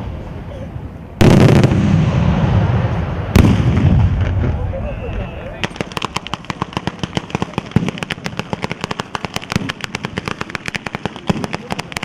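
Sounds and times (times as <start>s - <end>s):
firecrackers crackling: 0.0s - 12.0s
heavier firecracker bangs: 1.2s - 12.0s.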